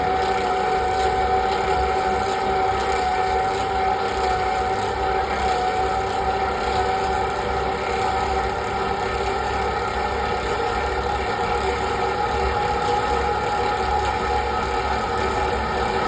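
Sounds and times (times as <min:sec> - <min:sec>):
lathe machine drone: 0:00.0 - 0:16.0.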